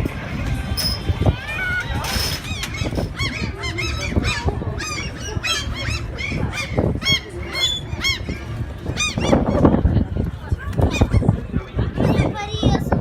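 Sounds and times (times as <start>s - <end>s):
gulls calling: 0.8s - 10.0s, 10.7s - 12.7s.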